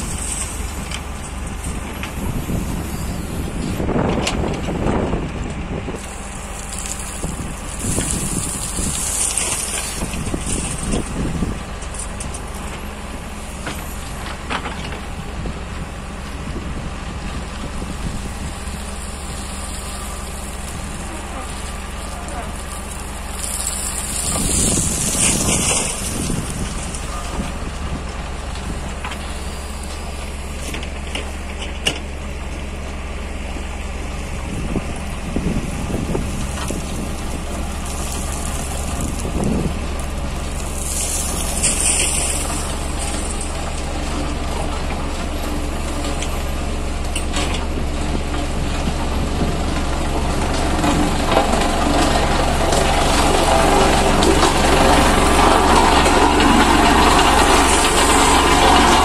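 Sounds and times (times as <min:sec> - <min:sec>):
road roller diesel engine: 0:00.0 - 0:59.0.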